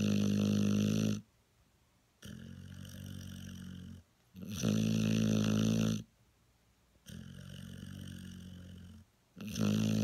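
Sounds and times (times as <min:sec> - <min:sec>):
dog snoring: 0:00.0 - 0:01.3, 0:02.2 - 0:06.1, 0:07.0 - 0:10.0.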